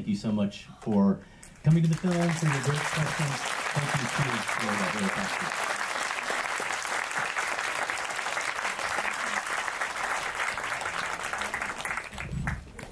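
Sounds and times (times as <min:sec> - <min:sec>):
audience applauding: 0:01.6 - 0:12.9.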